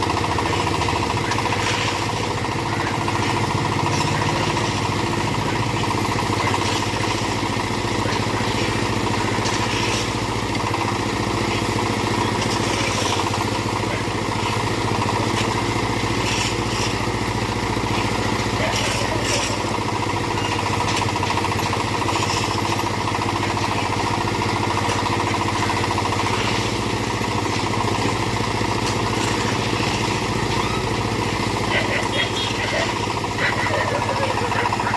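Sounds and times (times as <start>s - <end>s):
backhoe engine running: 0.0s - 34.9s.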